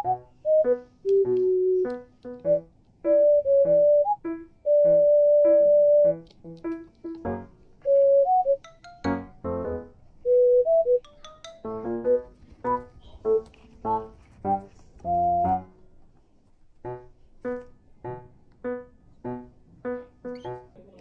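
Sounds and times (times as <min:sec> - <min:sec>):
slow piano melody: 0:00.0 - 0:16.1, 0:16.7 - 0:21.0.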